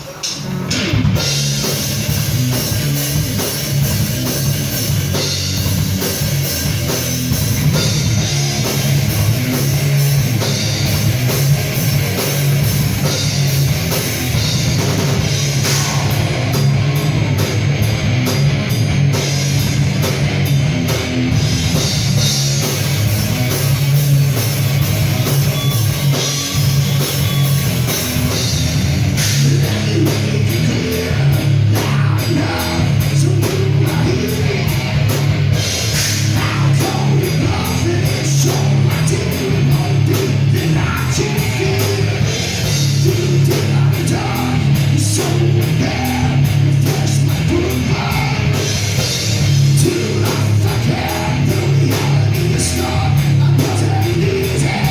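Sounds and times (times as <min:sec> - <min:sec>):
bass guitar: 0:00.0 - 0:54.9
drum kit: 0:00.0 - 0:54.9
electric guitar: 0:00.0 - 0:54.9.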